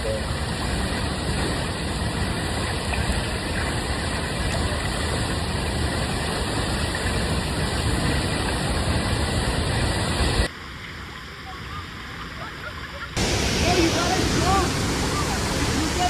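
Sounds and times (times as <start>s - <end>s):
waterfall roaring: 0.0s - 10.5s, 13.2s - 16.0s.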